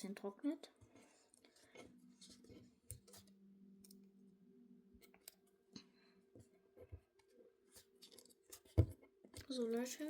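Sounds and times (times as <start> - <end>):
faint room hum: 0.0 - 10.0.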